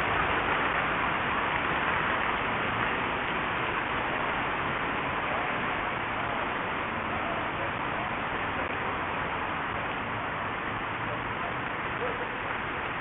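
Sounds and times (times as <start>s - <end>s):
city traffic hiss: 0.0s - 13.0s.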